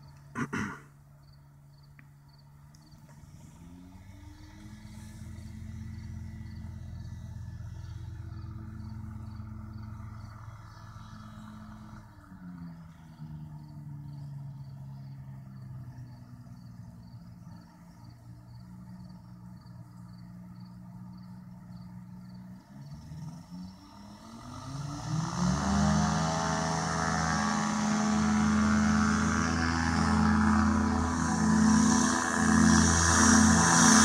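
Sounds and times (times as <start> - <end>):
light aircraft engine: 0.0 - 34.0.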